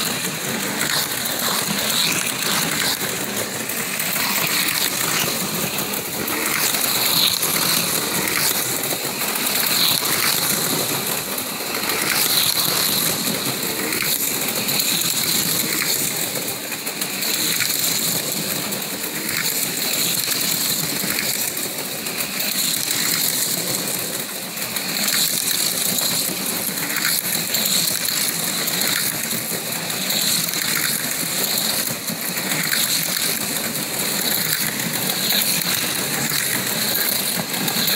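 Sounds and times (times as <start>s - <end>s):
cars rattling in track slots: 0.0s - 37.9s
slot car motors buzzing: 0.0s - 37.9s.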